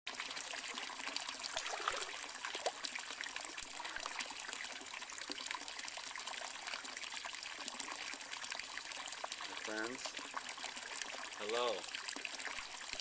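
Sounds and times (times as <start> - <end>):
water trickling and splashing: 0.1 - 13.0.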